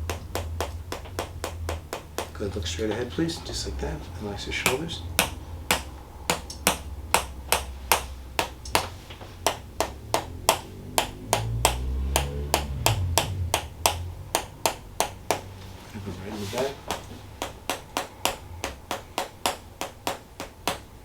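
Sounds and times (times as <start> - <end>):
wooden mallet tapping wooden wedge: 0.0 - 21.0.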